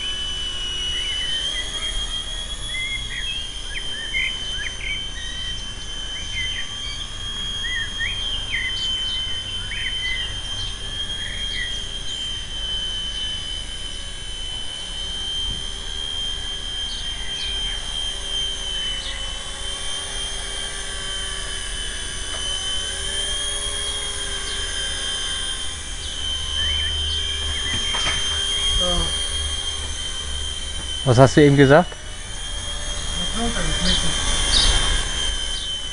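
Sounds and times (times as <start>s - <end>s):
birds chirping: 0.0s - 35.9s
rc helicopter motor whining: 0.0s - 35.9s.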